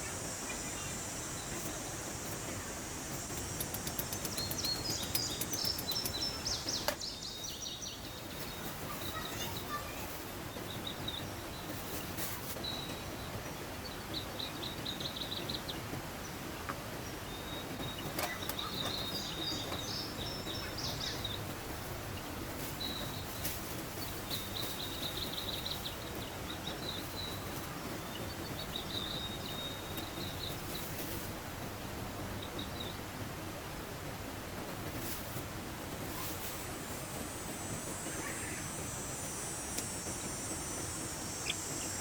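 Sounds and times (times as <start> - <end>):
birds chirping in trills: 0.0 - 31.1, 31.8 - 33.8, 36.0 - 42.0.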